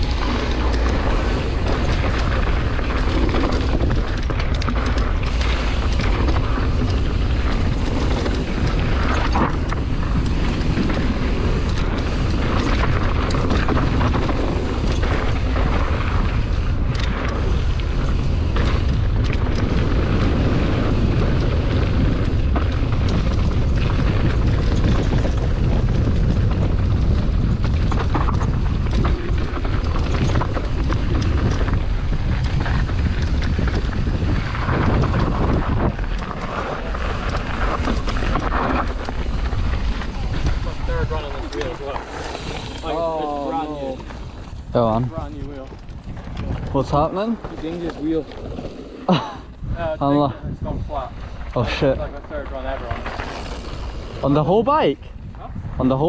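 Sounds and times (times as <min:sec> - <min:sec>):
bike tyre and chain clatter: 0:00.0 - 0:56.0
wind rumble on microphone: 0:00.0 - 0:56.0.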